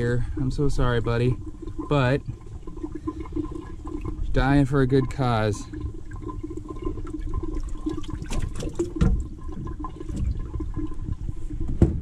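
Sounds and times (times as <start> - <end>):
water draining: 0.0 - 11.8
water splashing and sloshing: 0.0 - 12.0.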